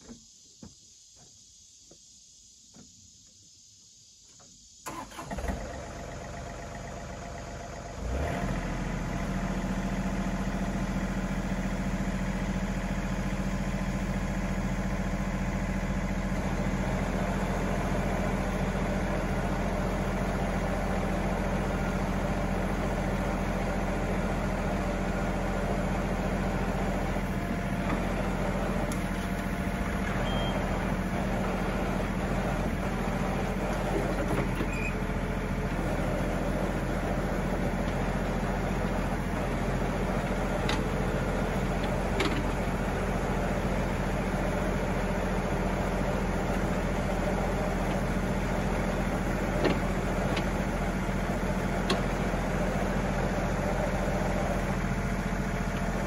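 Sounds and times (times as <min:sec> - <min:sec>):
tractor diesel engine running: 0:04.8 - 0:56.0.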